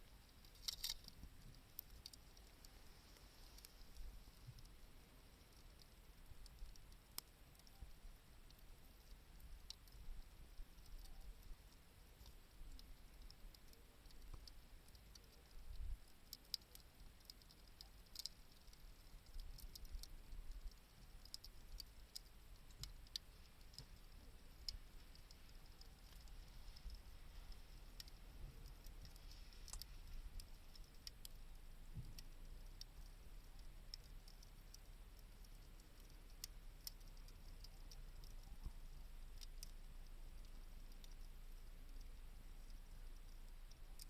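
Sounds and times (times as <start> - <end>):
campfire crackling: 0.0 - 44.0
low steady rumble: 0.0 - 44.0.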